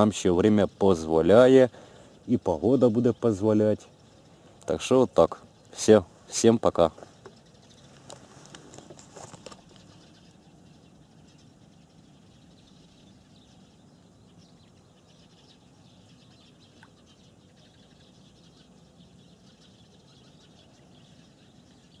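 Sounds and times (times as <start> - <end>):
low steady hiss: 0.0 - 22.0.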